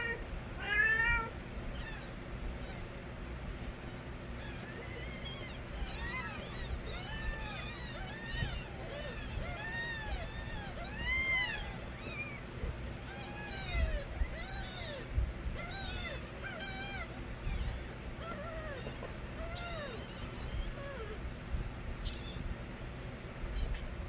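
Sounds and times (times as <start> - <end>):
kittens meowing loudly: 0.0 - 3.0, 3.8 - 21.3, 22.0 - 22.5.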